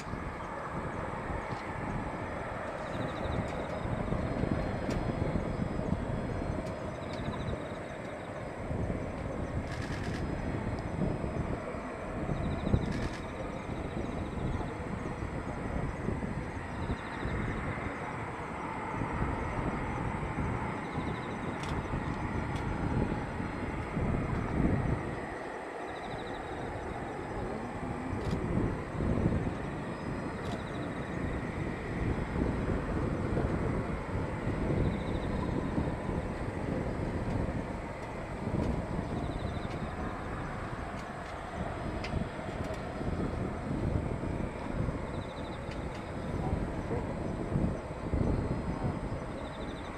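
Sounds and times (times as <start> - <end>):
distant jet engines rumbling: 0.0 - 49.9
wind on microphone: 0.0 - 49.9.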